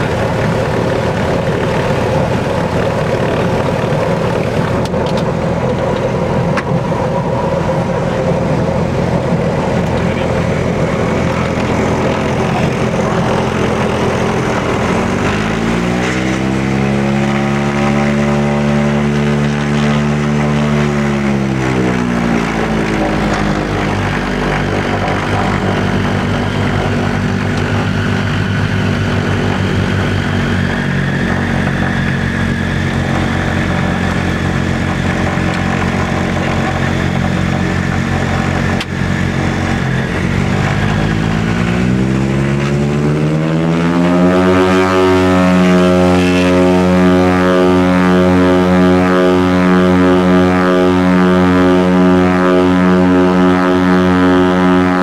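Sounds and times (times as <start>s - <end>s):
twin propeller engines running: 0.0s - 55.0s.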